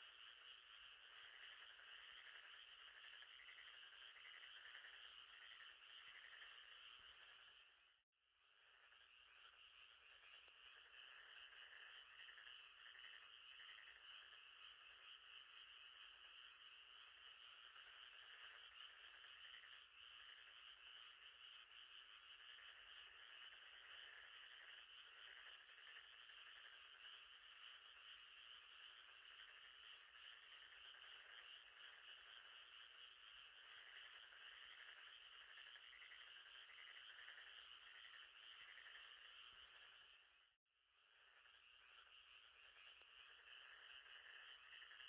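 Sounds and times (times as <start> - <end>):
frogs trilling: 0.0 - 7.9, 8.5 - 45.0.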